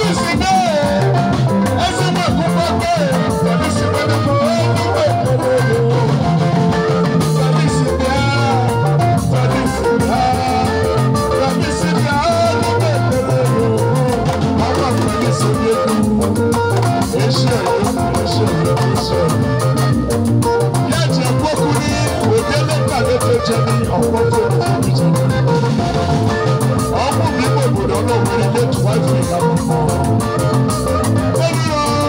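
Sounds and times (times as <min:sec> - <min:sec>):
man singing into a microphone: 0:00.0 - 0:19.9, 0:20.7 - 0:32.0
live band with electric guitar: 0:00.0 - 0:32.0.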